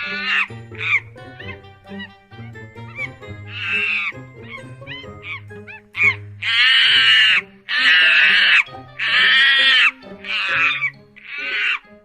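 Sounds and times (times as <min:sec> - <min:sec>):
background music: 0:00.0 - 0:12.0
monkey calling: 0:00.0 - 0:12.0.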